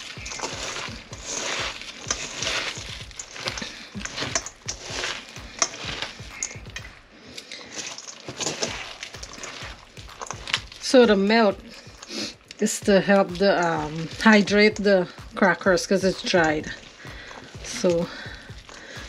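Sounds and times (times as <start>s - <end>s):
hand squishing moist stuffing: 0.0s - 19.0s.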